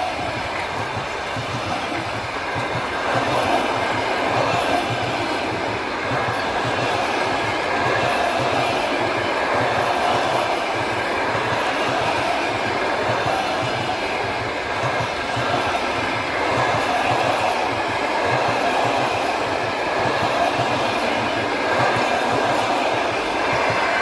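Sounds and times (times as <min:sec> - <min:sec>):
continuous train rumble: 0:00.0 - 0:24.0
train wheels clattering on track: 0:00.0 - 0:24.0.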